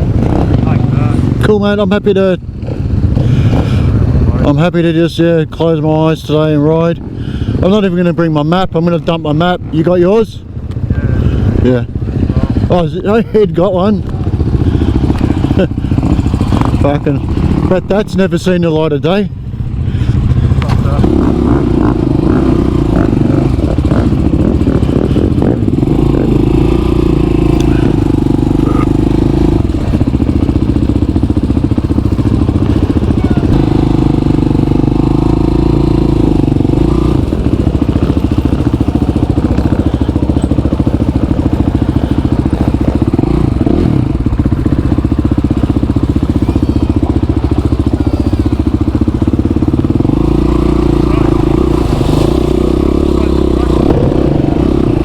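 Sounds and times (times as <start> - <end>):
motorcycle engine revving: 0.0 - 55.0
wind and road noise: 0.0 - 55.0.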